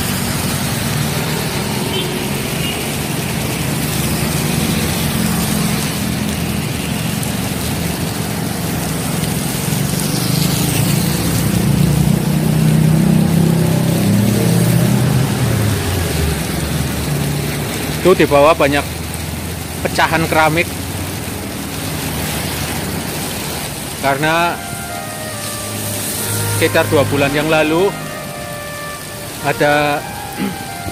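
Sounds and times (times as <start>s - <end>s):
vehicle engine humming: 0.0s - 18.0s, 20.7s - 30.9s
heavy rain hissing: 0.0s - 30.9s.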